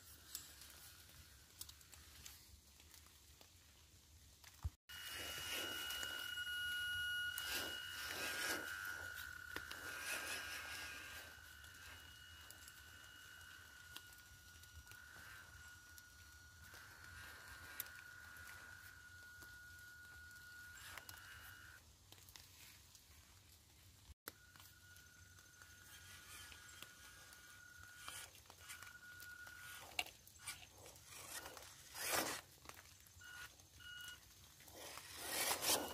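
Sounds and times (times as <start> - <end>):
tyres crunching over dirt and leaves: 0.0 - 20.1, 20.8 - 35.9
small electric motor whining: 4.5 - 21.8, 24.3 - 35.9.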